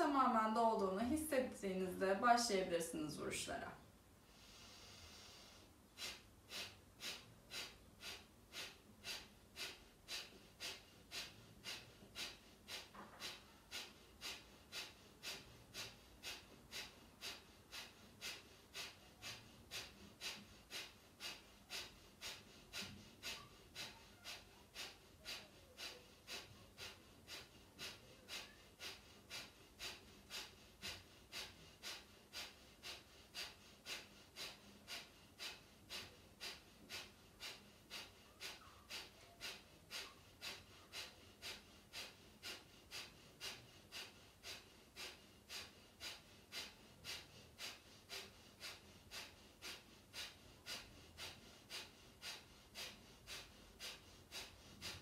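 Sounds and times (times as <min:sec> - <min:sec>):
forceful nasal exhalations: 0:04.3 - 0:55.0.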